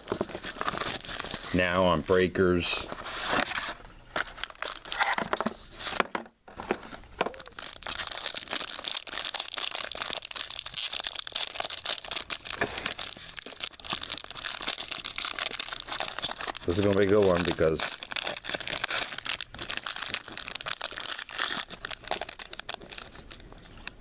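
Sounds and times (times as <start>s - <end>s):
packaging tearing: 0.0s - 1.7s, 2.9s - 6.0s, 7.3s - 24.0s
plastic wrapper crinkling: 0.0s - 24.0s.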